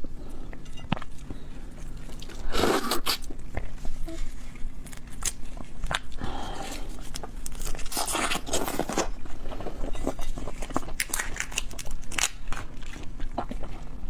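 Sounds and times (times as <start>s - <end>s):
crunching and chewing shellfish: 0.4s - 14.0s.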